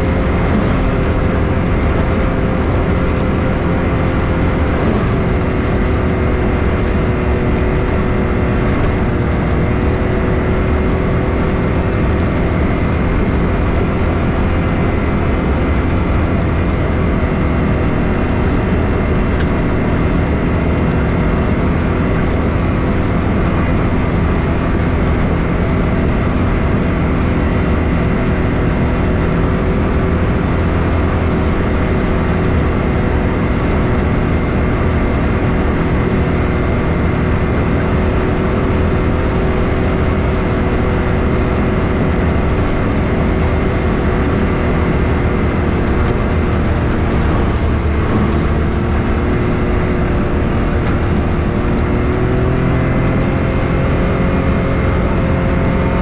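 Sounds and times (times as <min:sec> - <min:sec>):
off-road vehicle engine running: 0:00.0 - 0:56.0
rumble of tyres on dirt: 0:00.0 - 0:56.0.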